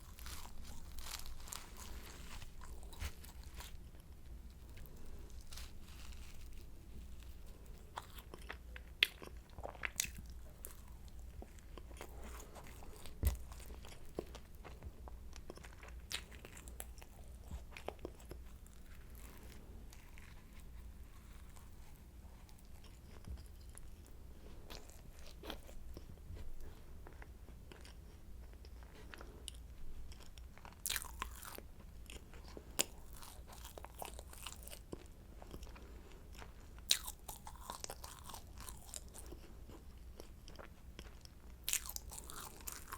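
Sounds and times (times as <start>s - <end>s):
pastry crunching while chewed: 0.0s - 42.9s.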